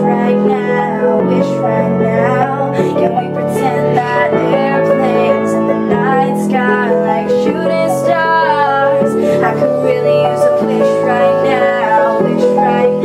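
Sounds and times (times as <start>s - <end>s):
piano accompaniment: 0.0s - 13.0s
woman singing long notes: 0.0s - 13.0s.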